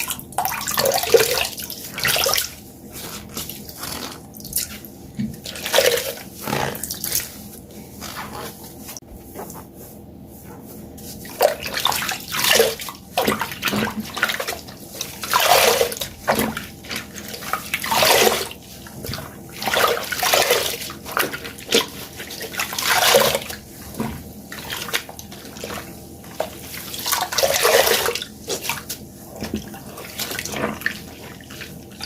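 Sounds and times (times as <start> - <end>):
water splashing from squeezed sponges: 0.0 - 9.4, 11.0 - 32.0.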